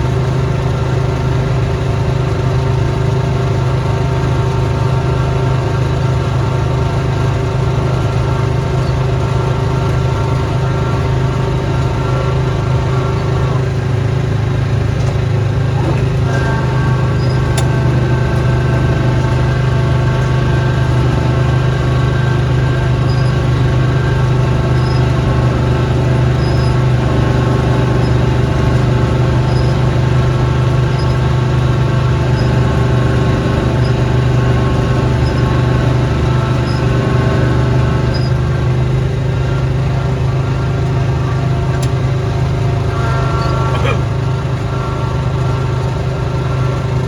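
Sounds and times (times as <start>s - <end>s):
snowblower engine running: 0.0s - 47.0s.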